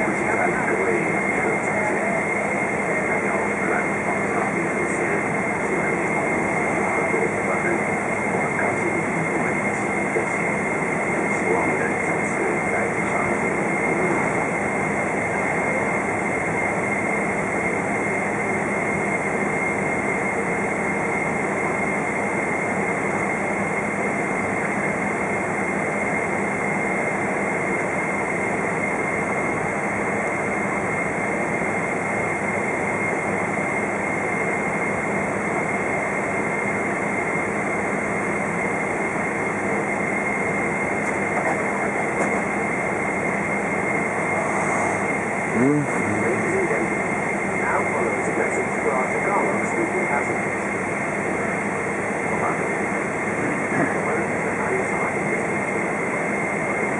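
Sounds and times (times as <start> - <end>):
jet engine whine: 0.0 - 56.9.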